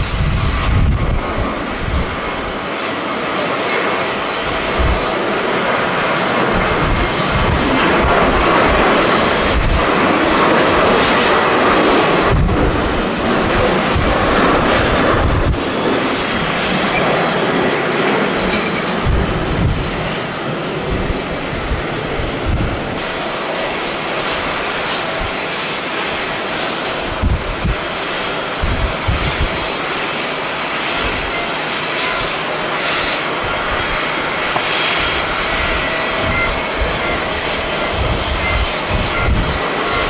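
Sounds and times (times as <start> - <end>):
jet airliner engines running: 0.0 - 40.0
wind buffeting microphone: 0.0 - 40.0.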